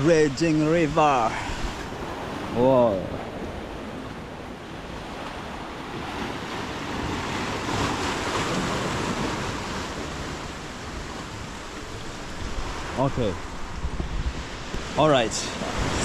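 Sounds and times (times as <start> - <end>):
sea waves breaking against rocks: 0.0 - 16.0.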